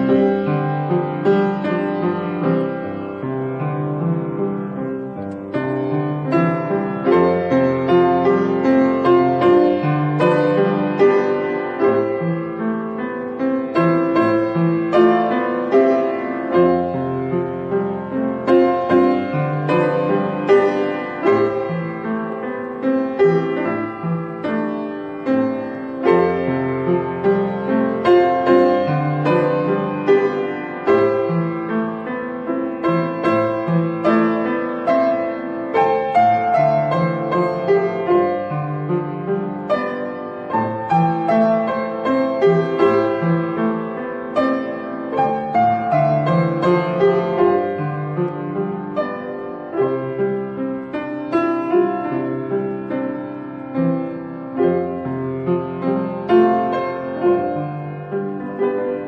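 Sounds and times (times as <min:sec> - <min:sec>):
solo piano piece: 0:00.0 - 0:59.0.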